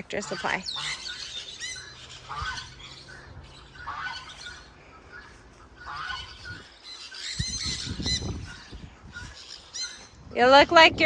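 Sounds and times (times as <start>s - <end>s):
harsh bird calls: 0.0s - 10.4s.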